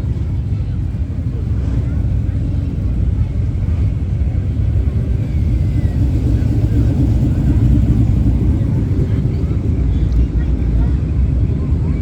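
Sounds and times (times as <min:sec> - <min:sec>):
faint voices: 0:00.0 - 0:12.0
vehicle engine rumbling: 0:00.0 - 0:12.0.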